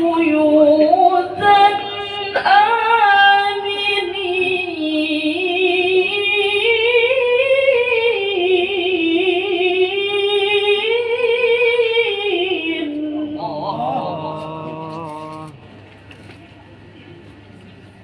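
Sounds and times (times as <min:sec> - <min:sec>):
melodic quran recitation: 0:00.0 - 0:15.6.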